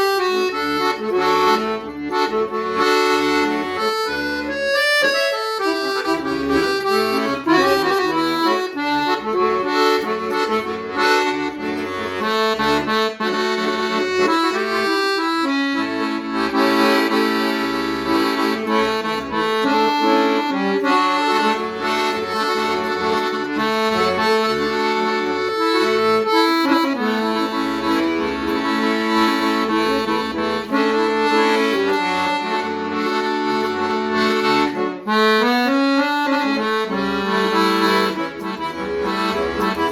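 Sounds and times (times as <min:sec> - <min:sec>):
accordion melody: 0:00.0 - 0:39.9.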